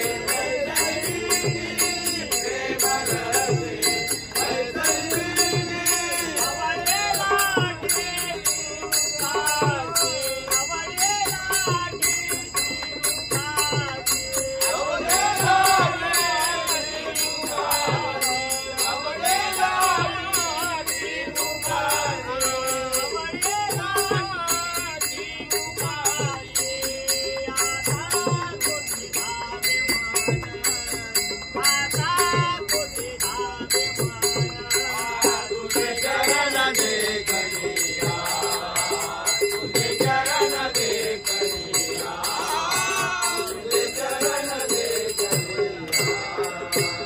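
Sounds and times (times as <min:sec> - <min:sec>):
group of voices singing: 0:00.0 - 0:47.0
hand cymbals clashing: 0:00.0 - 0:47.0.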